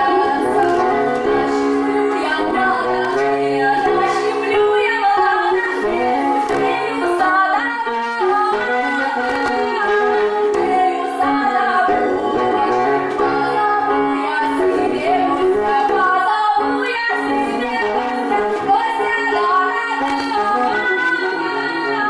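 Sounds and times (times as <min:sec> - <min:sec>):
instrumental accompaniment: 0:00.0 - 0:22.0
woman singing: 0:00.0 - 0:22.0.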